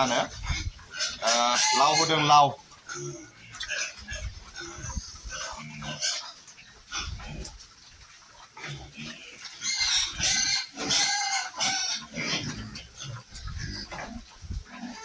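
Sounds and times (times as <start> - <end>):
pigs grunting and squealing: 0.0 - 15.0.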